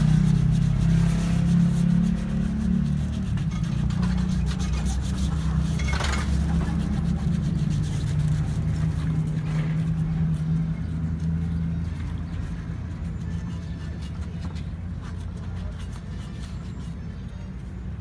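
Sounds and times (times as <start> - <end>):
sanding scrape on metal rim: 0.0 - 17.6.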